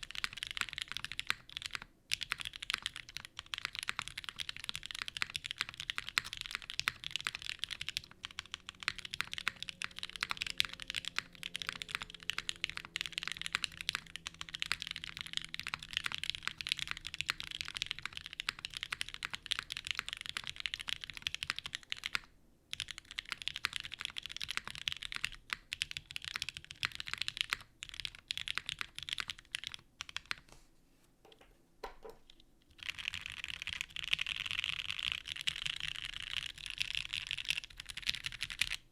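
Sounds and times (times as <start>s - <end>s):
mechanical keyboard typing: 0.0s - 30.4s, 31.8s - 38.9s.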